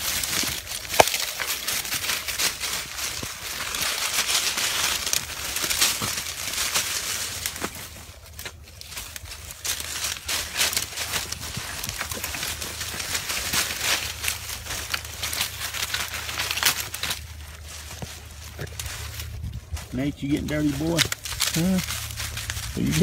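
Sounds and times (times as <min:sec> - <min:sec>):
twigs and leaves crackling: 0:00.0 - 0:23.0.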